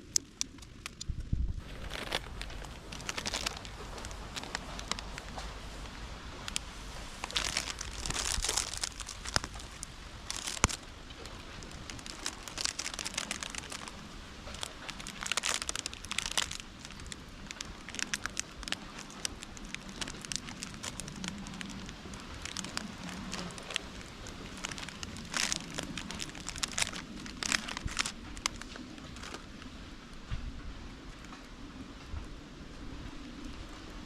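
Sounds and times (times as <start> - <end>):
campfire crackling and popping: 0.0 - 29.8.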